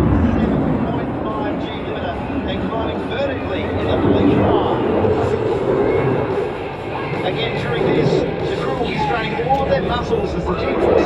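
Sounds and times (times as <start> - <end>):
distant jet engines rumbling: 0.0 - 11.0
spectators talking indistinctly: 0.0 - 11.0.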